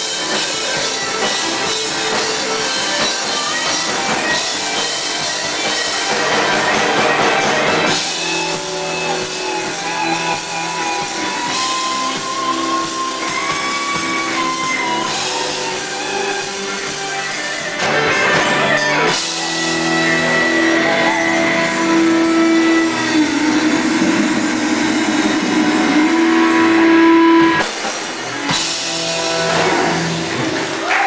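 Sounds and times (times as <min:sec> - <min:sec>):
bass guitar: 0:00.0 - 0:31.0
drums: 0:00.0 - 0:31.0
electric guitars: 0:00.0 - 0:31.0.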